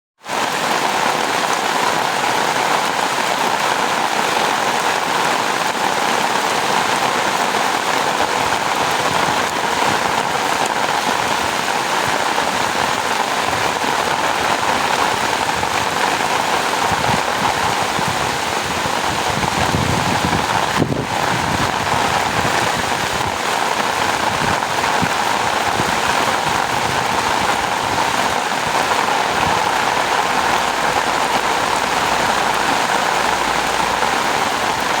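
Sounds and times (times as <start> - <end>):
rain falling: 0.2 - 35.0.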